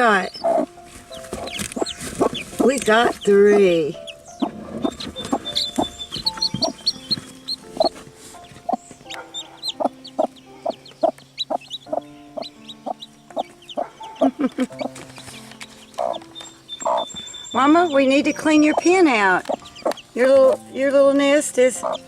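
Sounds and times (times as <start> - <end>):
chicks peeping: 0.0 - 22.0
quiet background music: 0.0 - 22.0.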